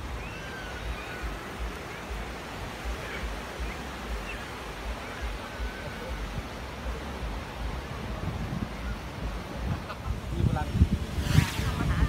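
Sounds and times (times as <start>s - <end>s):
surf breaking on beach: 0.0s - 12.0s
wind rumbling on microphone: 0.0s - 12.0s.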